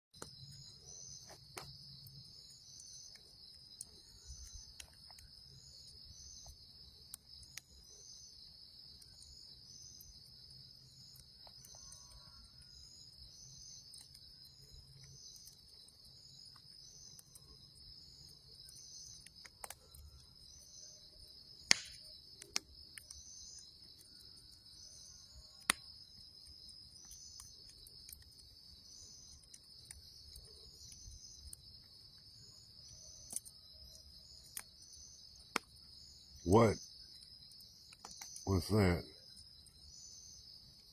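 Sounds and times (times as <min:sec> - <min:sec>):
campfire pops: 0:00.2 - 0:40.9
crickets trilling and chirping: 0:00.2 - 0:40.9.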